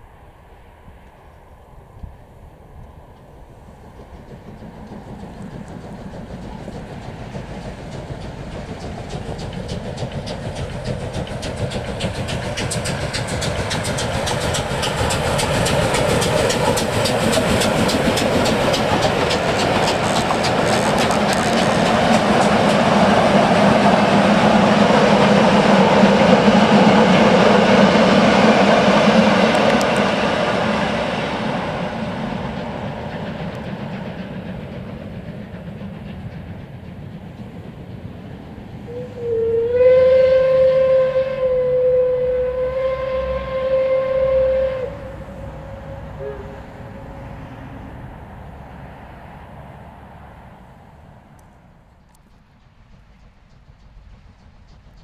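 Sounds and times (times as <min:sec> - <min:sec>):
train wheels rumbling: 0:00.0 - 0:55.0
steam locomotive chuffing: 0:02.4 - 0:49.7, 0:50.6 - 0:55.0.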